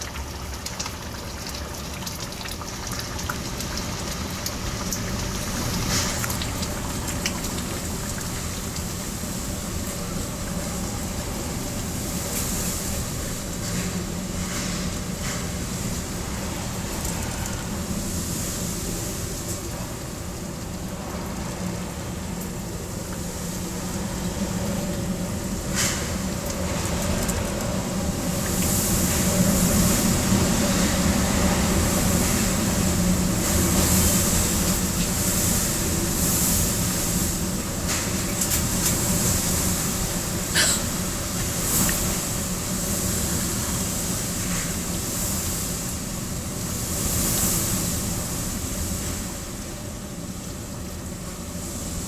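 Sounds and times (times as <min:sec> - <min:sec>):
strong wind gusting around building: 0:03.4 - 0:52.0.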